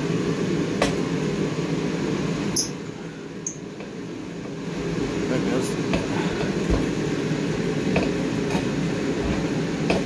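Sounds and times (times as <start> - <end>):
heater rushing hum: 0.0 - 10.0.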